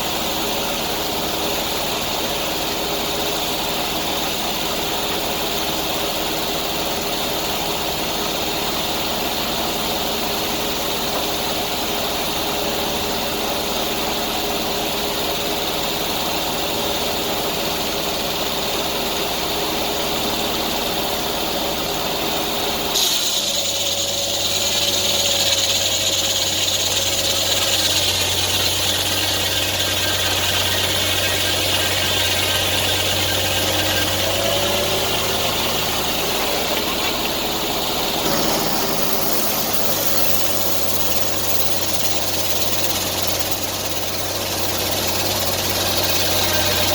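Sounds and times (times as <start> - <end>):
engine running: 0.0 - 46.9.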